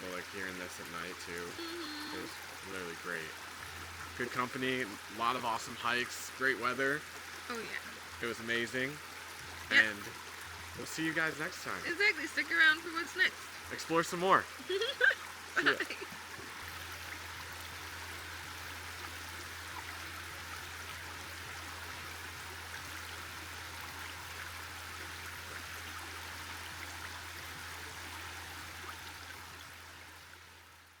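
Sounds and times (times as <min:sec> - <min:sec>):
creek flowing water: 0:00.0 - 0:31.0.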